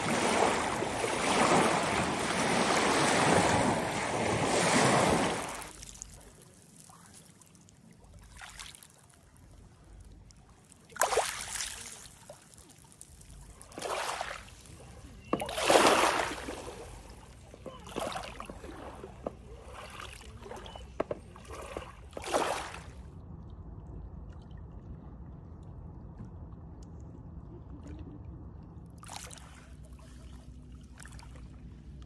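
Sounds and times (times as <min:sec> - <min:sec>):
faint low rumble: 0:00.0 - 0:10.9, 0:14.4 - 0:32.0
water splashing and sloshing: 0:00.0 - 0:32.0.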